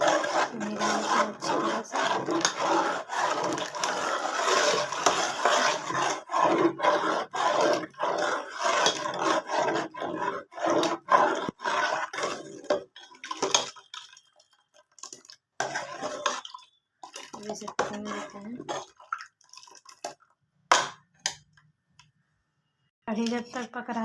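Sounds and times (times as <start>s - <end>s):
utensil scraping a pot: 0.0s - 14.4s, 15.0s - 20.1s.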